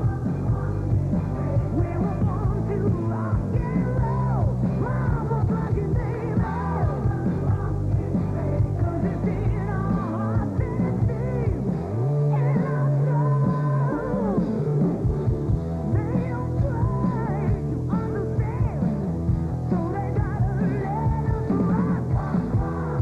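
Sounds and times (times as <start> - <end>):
woman singing: 0.0 - 11.7, 12.3 - 14.7, 15.9 - 18.9, 19.7 - 23.0
live rock band playing: 0.0 - 23.0.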